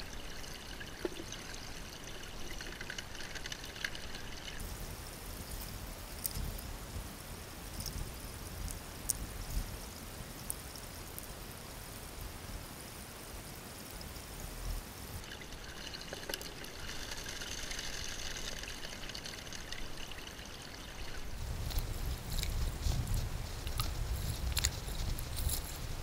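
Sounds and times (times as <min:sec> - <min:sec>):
creek water trickling: 0:00.0 - 0:12.0, 0:13.7 - 0:26.0.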